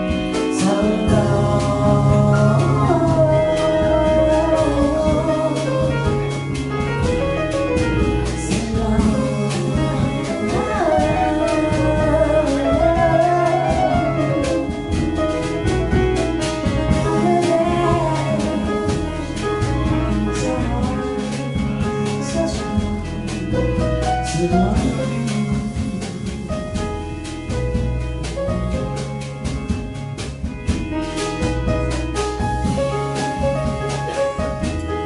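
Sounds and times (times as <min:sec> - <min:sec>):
person singing jazz: 0:00.0 - 0:29.7, 0:30.9 - 0:35.0
bass: 0:00.0 - 0:35.0
drums with cymbals: 0:00.0 - 0:35.0
keyboards: 0:00.0 - 0:35.0.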